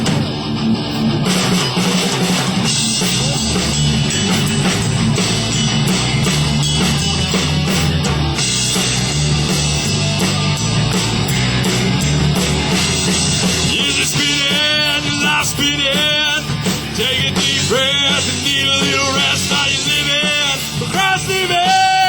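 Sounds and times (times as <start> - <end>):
bass guitar: 0.0 - 22.0
drum kit: 0.0 - 22.0
electric guitar: 0.0 - 22.0.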